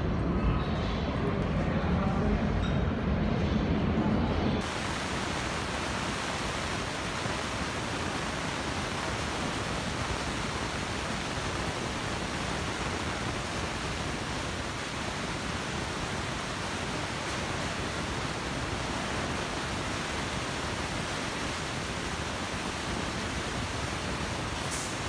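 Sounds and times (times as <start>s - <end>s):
subway platform rushing noise: 0.0s - 25.0s.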